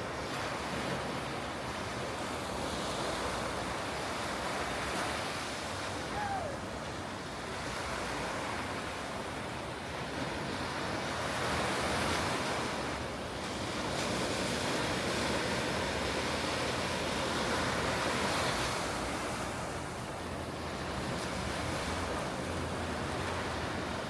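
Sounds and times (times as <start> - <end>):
ocean surf breaking: 2.4 - 24.0.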